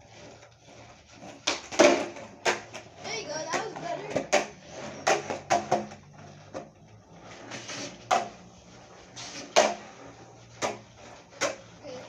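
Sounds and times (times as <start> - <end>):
skateboard clacking on pavement: 0.1 - 12.0.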